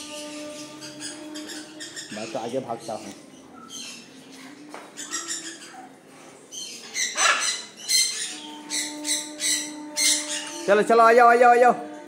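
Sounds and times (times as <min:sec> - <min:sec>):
parrots squawking: 0:00.0 - 0:04.4, 0:05.0 - 0:11.4.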